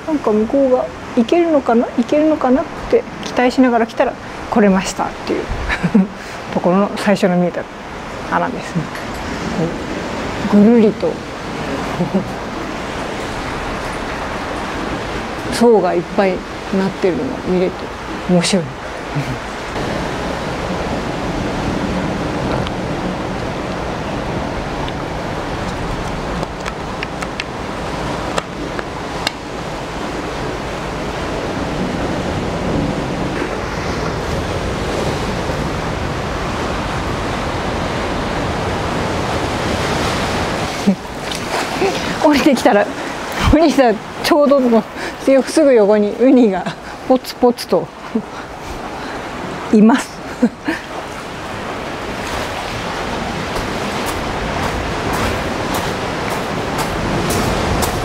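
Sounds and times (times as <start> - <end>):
sea surf breaking on rocks: 0.0 - 58.0
wind on microphone: 0.0 - 58.0.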